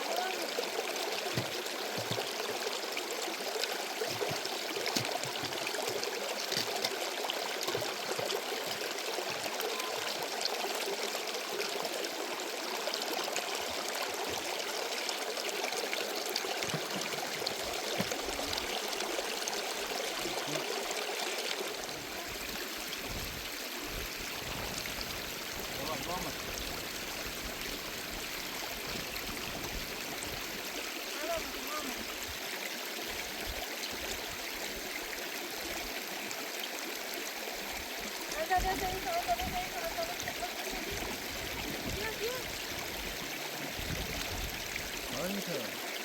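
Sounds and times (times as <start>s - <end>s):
water running in a stream: 0.0s - 46.0s.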